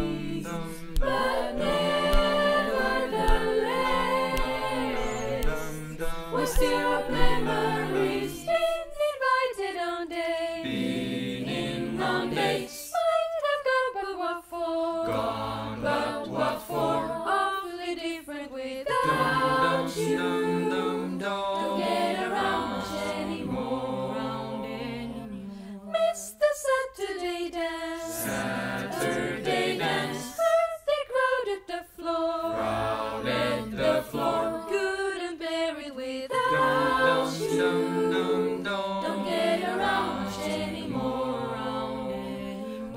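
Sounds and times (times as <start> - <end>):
choir singing a cappella: 0.0 - 42.9.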